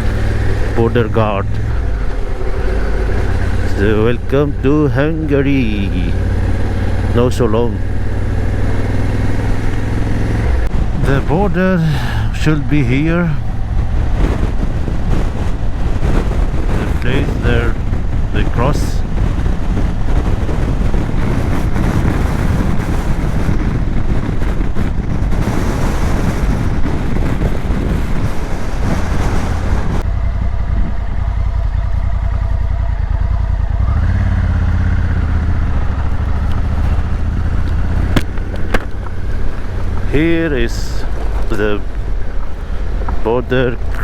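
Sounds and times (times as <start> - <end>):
motorcycle engine low note: 0.0 - 44.0
wind rush on microphone: 0.0 - 44.0.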